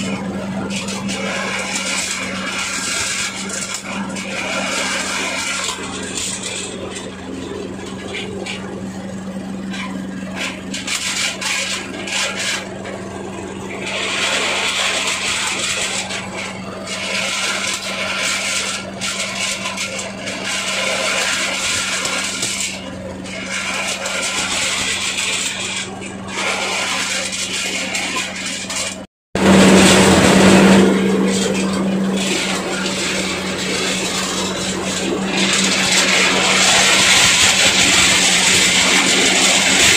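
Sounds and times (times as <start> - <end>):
diesel engine drone: 0.0 - 39.9
dried nuts scraping and rattling: 0.0 - 39.9.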